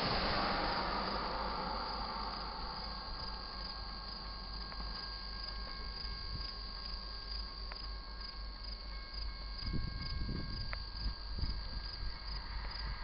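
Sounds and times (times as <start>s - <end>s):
crickets chirring: 0.0s - 13.0s
faint thin steady tones: 0.0s - 13.0s
freight train rumble: 0.0s - 13.0s.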